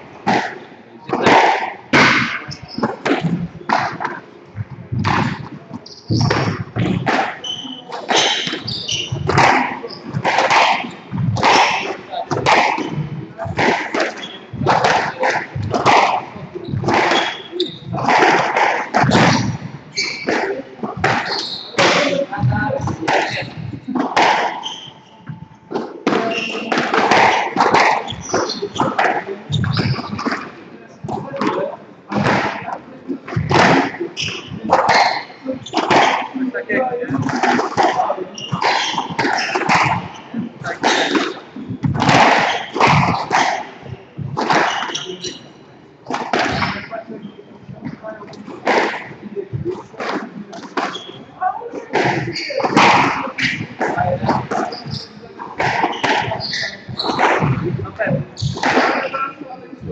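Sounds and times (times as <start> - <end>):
shoes squeaking on wooden floor: 0.0 - 30.4, 37.1 - 49.7, 50.7 - 59.2
squash ball hits: 0.2 - 4.2, 4.9 - 24.9, 25.7 - 36.4, 37.1 - 45.4, 46.1 - 46.9, 48.6 - 51.1, 51.9 - 59.1.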